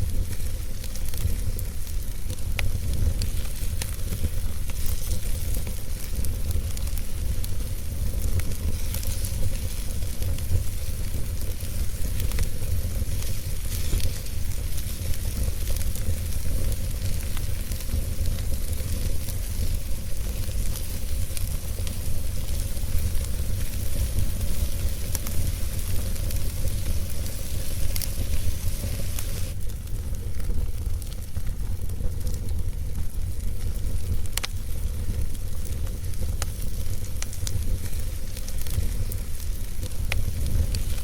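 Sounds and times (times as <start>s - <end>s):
low rumble of fire: 0.0s - 41.0s
wood fire hissing and crackling: 0.0s - 41.0s.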